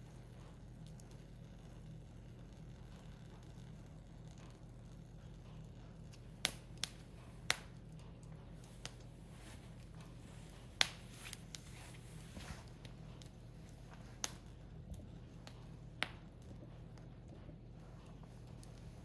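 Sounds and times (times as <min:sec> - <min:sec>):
firewood crackling and popping: 0:00.0 - 0:19.0
low steady hum: 0:00.0 - 0:19.0.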